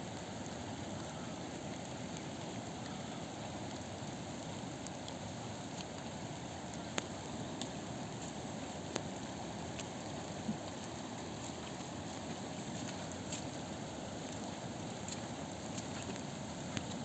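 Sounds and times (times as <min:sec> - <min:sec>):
rain: 0:00.0 - 0:17.0
river rushing: 0:00.0 - 0:17.0.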